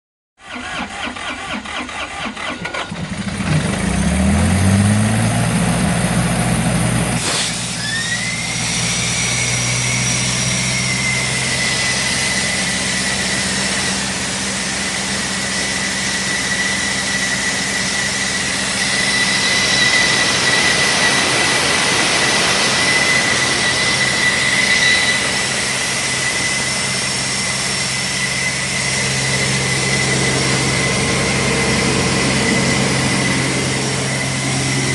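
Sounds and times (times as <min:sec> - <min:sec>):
diesel engine starting and revving: 0:00.4 - 0:34.9
high machine whine: 0:04.7 - 0:34.9.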